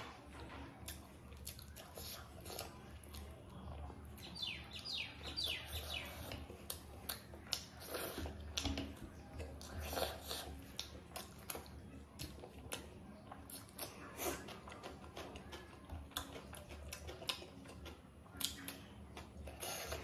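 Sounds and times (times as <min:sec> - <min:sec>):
chewing soft food: 0:00.0 - 0:20.0.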